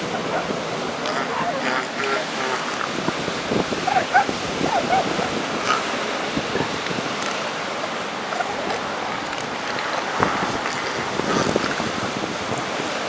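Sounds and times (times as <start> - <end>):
surf washing: 0.0 - 13.0
wind buffeting microphone: 0.0 - 13.0.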